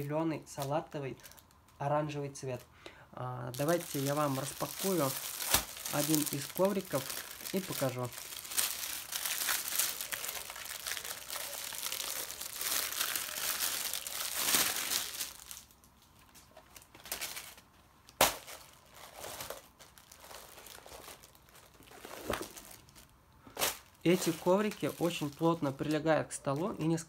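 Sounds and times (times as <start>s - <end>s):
plastic packaging crinkling: 0.0s - 1.8s, 3.5s - 27.0s.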